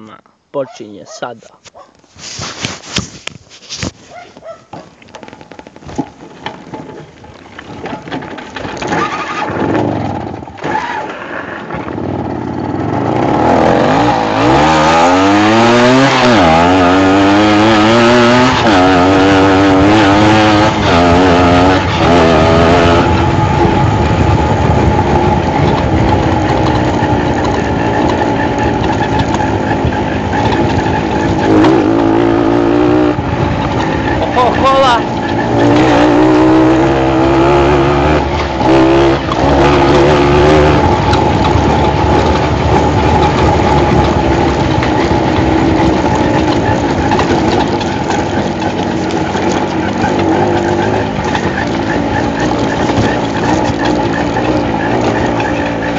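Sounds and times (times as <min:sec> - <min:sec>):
rattles: 0:02.0 - 0:55.9
moped engine revving: 0:05.0 - 0:55.9.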